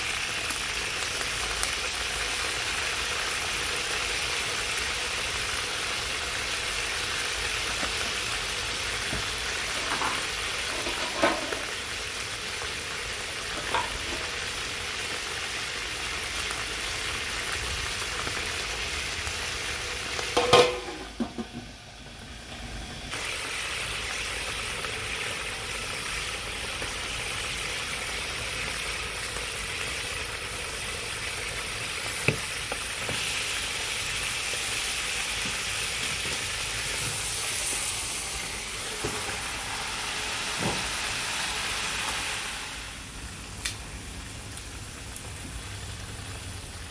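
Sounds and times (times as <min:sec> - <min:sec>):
wood fire hissing: 0:00.0 - 0:46.9.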